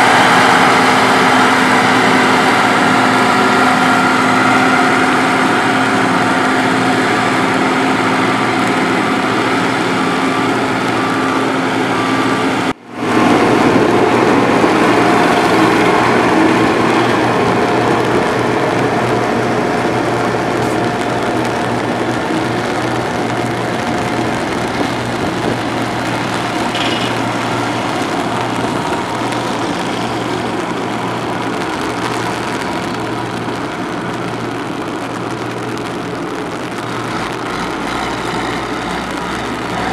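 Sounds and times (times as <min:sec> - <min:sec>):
diesel engines of machinery running: 0:00.0 - 0:39.9.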